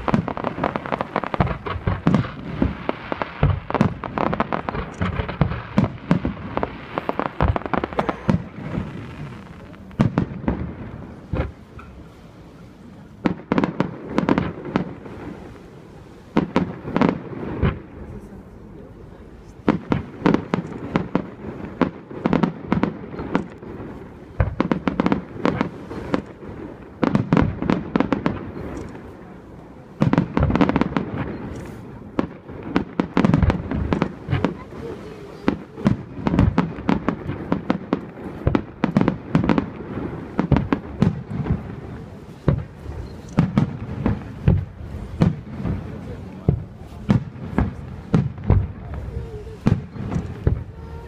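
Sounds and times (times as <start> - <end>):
fireworks bursting and crackling: 0.0 - 51.0.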